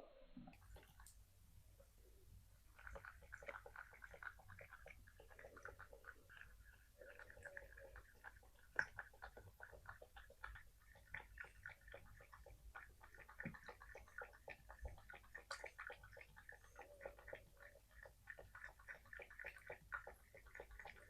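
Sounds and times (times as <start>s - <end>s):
cat lapping water: 0.5s - 1.2s, 2.6s - 21.0s.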